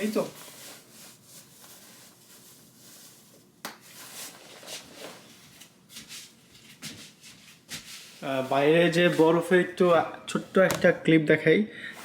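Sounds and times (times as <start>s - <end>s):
clothing rustling: 0.0s - 10.9s.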